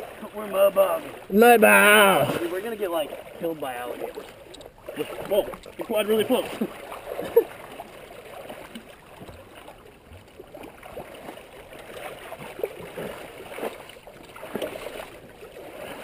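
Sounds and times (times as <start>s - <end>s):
water churning and splashing: 0.0s - 16.0s.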